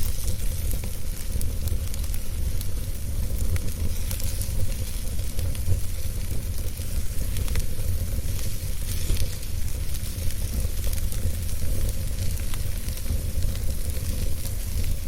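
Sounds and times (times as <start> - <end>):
fire hiss and rumble: 0.0 - 15.0
wood fire crackling: 0.0 - 15.0.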